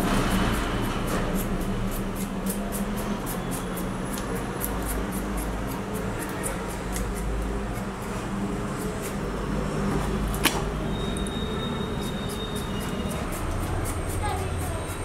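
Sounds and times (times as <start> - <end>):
peeler scraping potato skin: 0.0 - 15.0.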